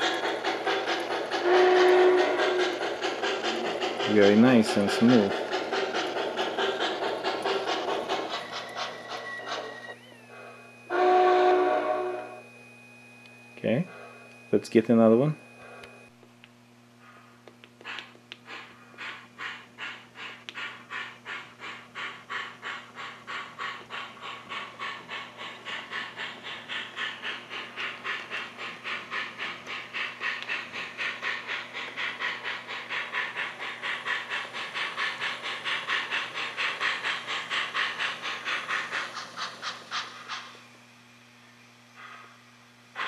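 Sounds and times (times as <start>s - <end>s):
model steam locomotive chuffing: 0.0s - 12.4s, 17.8s - 40.8s, 42.0s - 43.0s.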